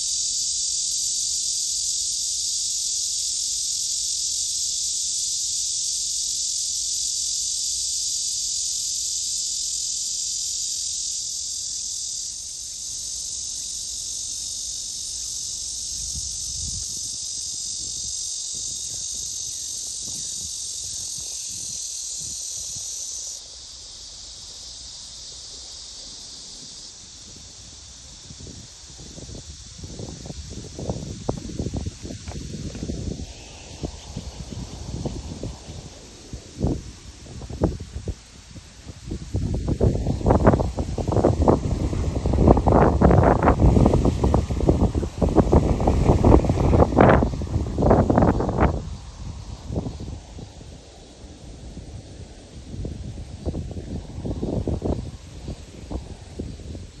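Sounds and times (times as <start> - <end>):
cicada shrill buzz: 0.0 - 57.0.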